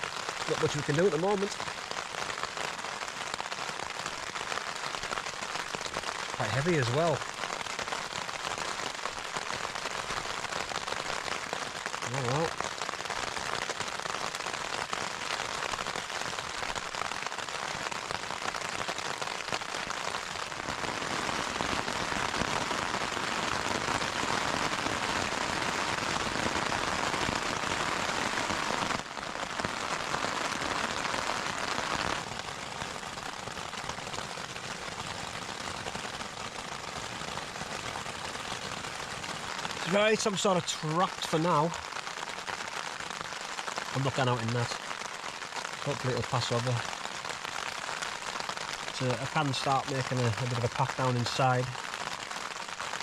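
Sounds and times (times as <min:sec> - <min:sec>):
heavy rain on tent fabric: 0:00.0 - 0:53.0.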